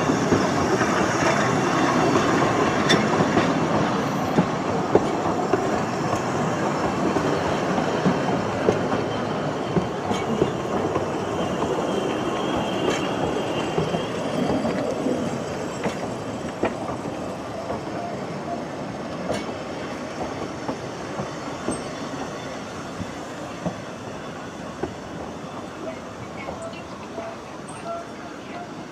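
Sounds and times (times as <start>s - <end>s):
train wheels rumbling and clicking: 0.0s - 28.9s.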